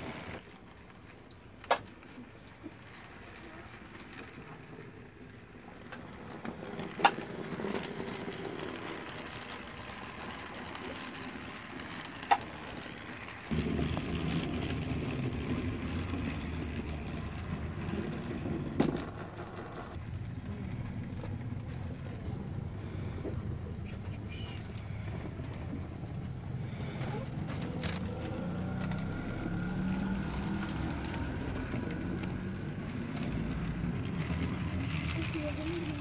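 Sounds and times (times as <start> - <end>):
toy train rattling hum: 0.0 - 36.0.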